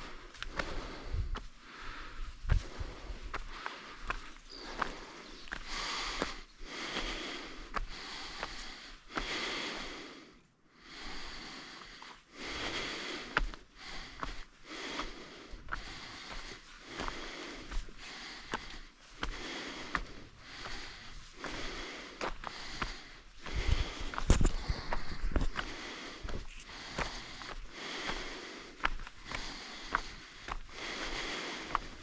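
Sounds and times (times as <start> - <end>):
footsteps on rocky trail: 0.0 - 9.9, 11.0 - 32.0
person breathing hard: 0.0 - 32.0.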